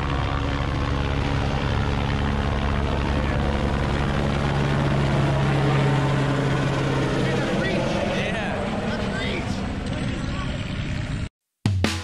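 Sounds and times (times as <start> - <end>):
helicopter hovering: 0.0 - 11.3.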